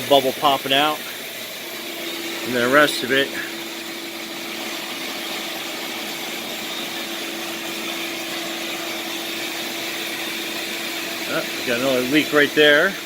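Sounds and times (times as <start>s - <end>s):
shop vac running: 0.0s - 13.0s.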